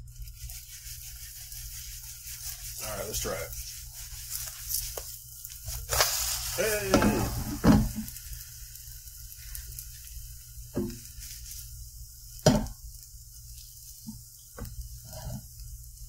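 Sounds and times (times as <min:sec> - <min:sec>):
omelet sizzling in a skillet: 0:00.0 - 0:16.0.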